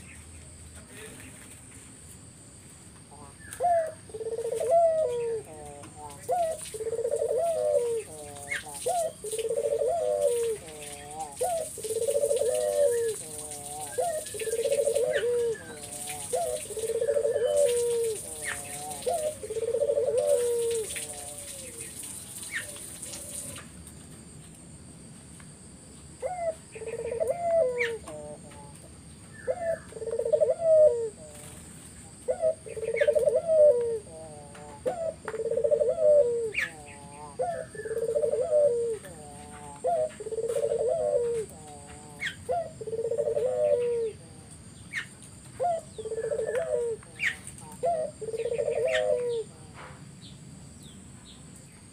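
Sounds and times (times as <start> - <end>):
small birds chirping faintly: 0.0 - 51.9
dove cooing: 3.1 - 23.6, 26.2 - 49.9.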